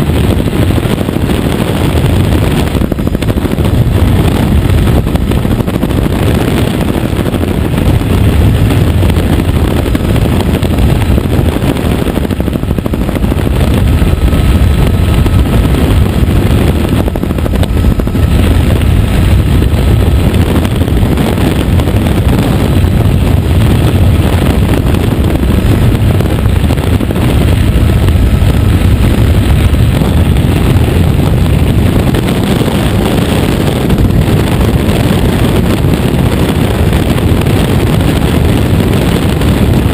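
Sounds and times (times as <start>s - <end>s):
helicopter rotor and engine roar: 0.0s - 39.9s.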